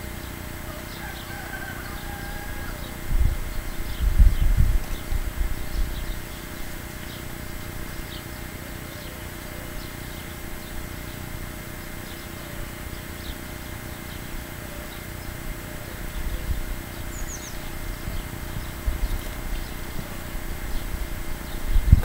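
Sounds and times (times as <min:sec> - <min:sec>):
steady hiss: 0:00.0 - 0:22.0
high bird chirps: 0:00.2 - 0:22.0.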